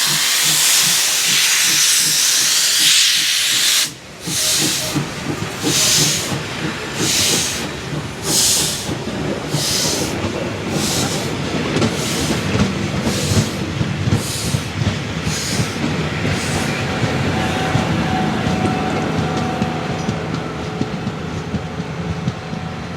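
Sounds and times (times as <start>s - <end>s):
steam locomotive chuffing: 0.0s - 22.9s
train wheels clattering: 0.0s - 22.9s.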